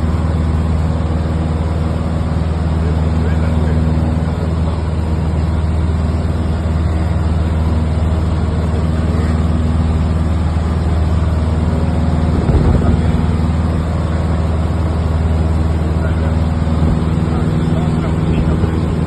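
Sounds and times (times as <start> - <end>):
aeroplane engine drone in cabin: 0.0 - 19.0.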